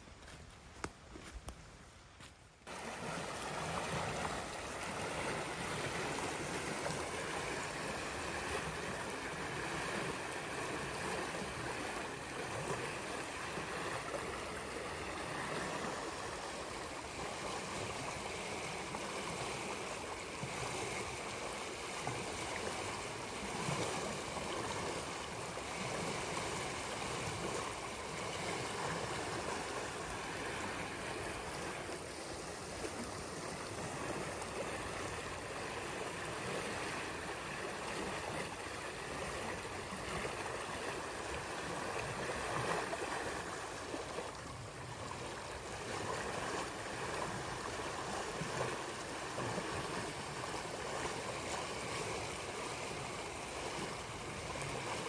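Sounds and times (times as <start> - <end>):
river rushing: 2.7 - 55.0.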